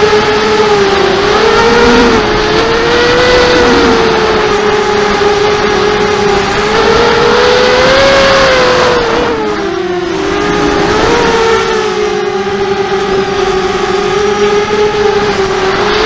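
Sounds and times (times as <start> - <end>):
drone motors whining: 0.0 - 16.0
steady rushing noise: 0.0 - 16.0.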